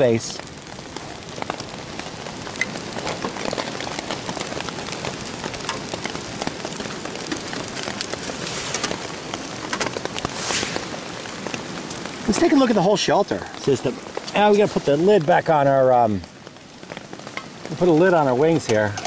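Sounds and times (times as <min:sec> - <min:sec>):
heavy rain on a poncho: 0:00.0 - 0:19.0
wood fire crackling in stove: 0:00.0 - 0:19.0.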